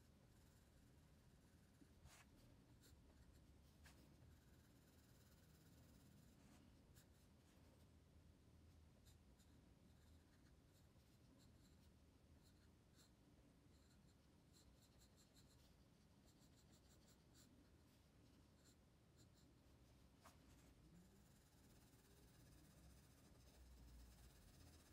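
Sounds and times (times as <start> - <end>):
pencil scratching on paper: 0.0 - 7.9, 8.7 - 24.9.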